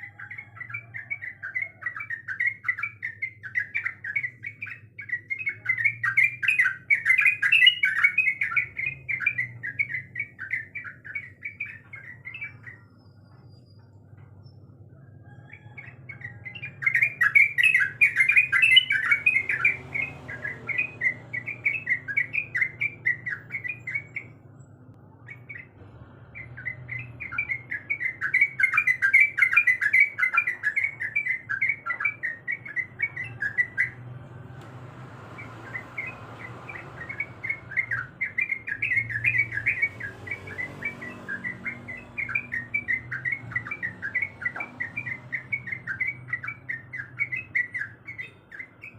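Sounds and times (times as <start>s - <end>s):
bird singing chattering notes: 0.0s - 25.8s, 26.4s - 34.3s, 35.4s - 48.9s.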